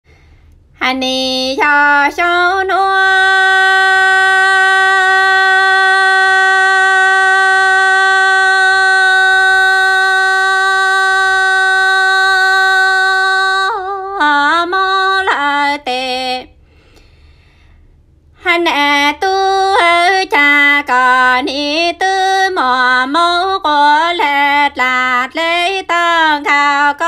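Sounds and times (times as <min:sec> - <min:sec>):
woman singing: 0:00.8 - 0:16.6, 0:18.4 - 0:27.0.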